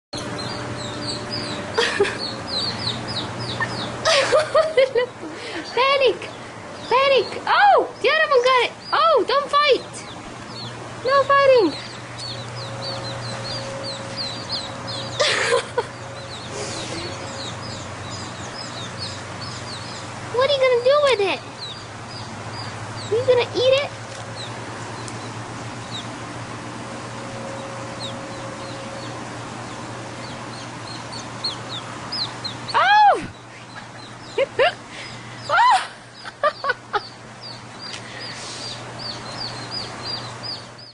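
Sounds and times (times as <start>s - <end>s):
high chirps: 0.2s - 4.1s, 5.0s - 26.2s, 27.4s - 40.9s
chicks peeping: 0.2s - 35.6s, 36.2s - 40.9s.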